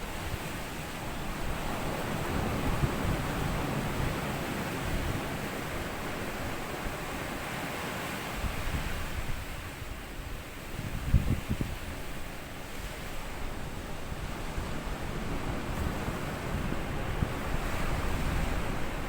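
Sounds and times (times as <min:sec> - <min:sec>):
waves washing onto sandy beach: 0:00.0 - 0:19.0.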